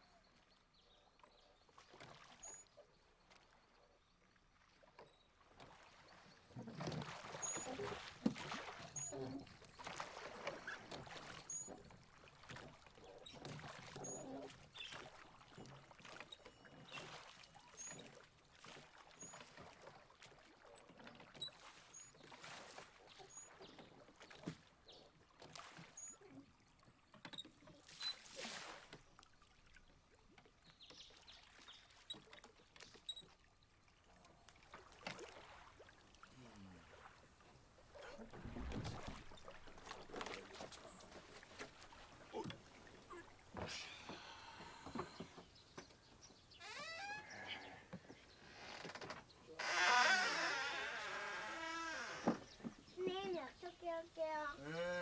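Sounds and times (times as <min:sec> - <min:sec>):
oar splashing in water: 0:01.3 - 0:03.7, 0:04.5 - 0:55.0.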